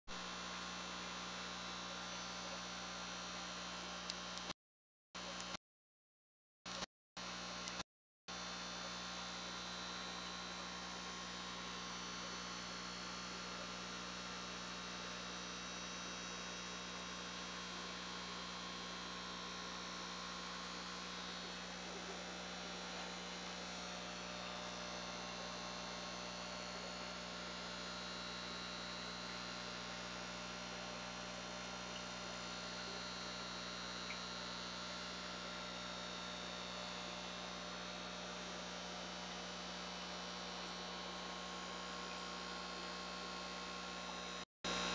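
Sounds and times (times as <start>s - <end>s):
electrical hum with hiss: 8.4s - 44.9s.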